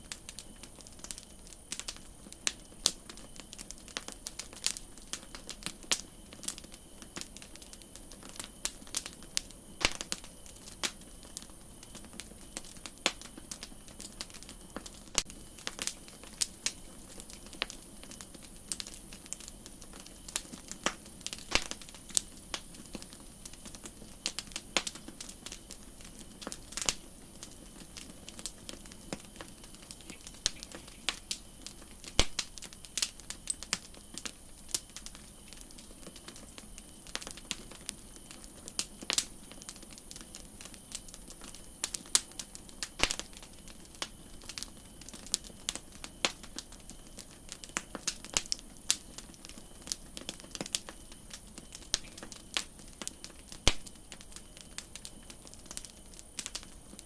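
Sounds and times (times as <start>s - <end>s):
campfire crackling and popping: 0.0s - 57.0s
high steady hiss: 0.0s - 57.0s.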